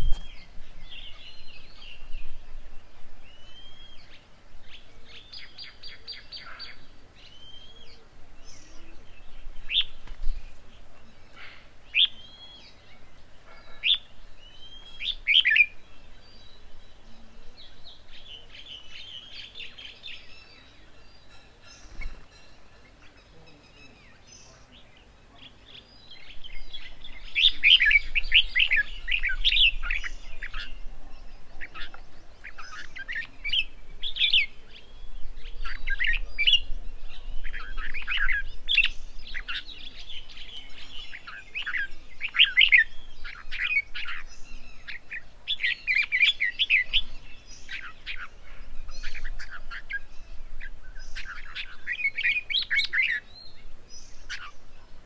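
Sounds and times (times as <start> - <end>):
birds chirping and chattering: 0.0 - 55.0.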